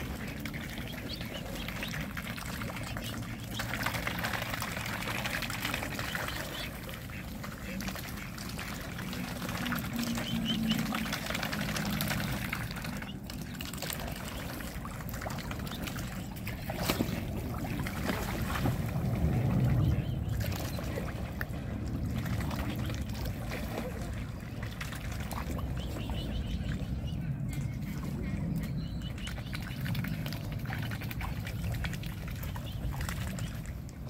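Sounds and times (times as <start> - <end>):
water splashing and trickling: 0.0 - 34.0.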